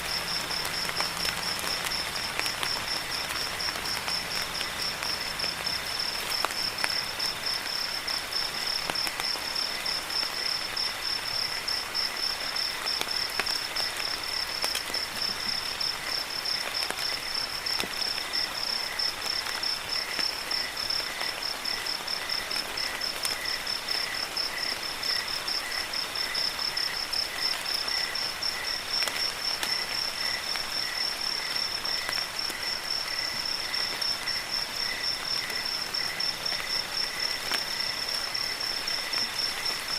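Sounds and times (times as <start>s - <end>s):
crickets chirping: 0.0s - 39.9s
rain hissing: 0.0s - 39.9s.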